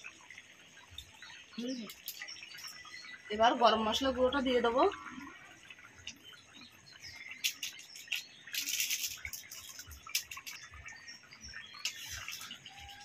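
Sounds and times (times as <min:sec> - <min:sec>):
curry boiling in a pan: 0:00.0 - 0:13.0.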